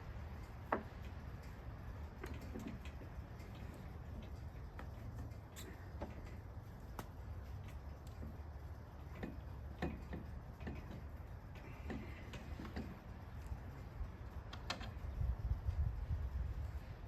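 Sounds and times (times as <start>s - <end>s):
low steady rumble: 0.0s - 17.0s
parts clicking and tapping: 0.3s - 15.2s.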